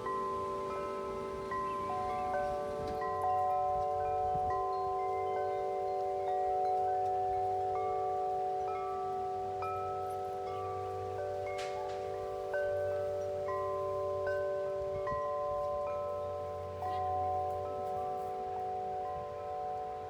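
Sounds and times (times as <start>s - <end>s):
wind chimes ringing: 0.0s - 20.0s.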